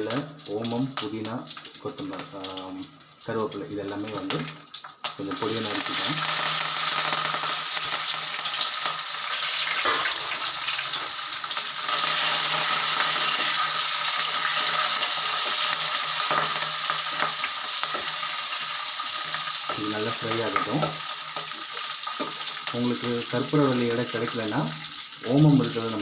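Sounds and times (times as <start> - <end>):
spices sizzling in hot oil: 0.0 - 26.0.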